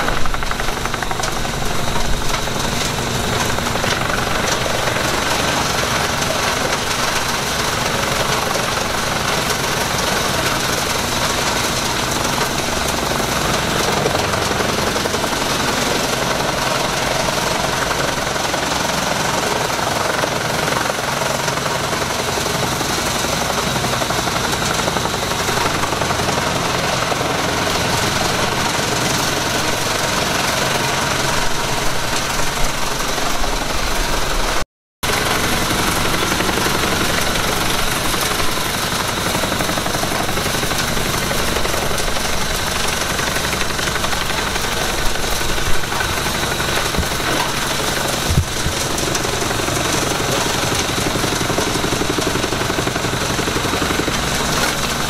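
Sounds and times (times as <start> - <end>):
tractor diesel engine under load: 0.0 - 55.0
wood chipper chopping branches: 0.0 - 55.0.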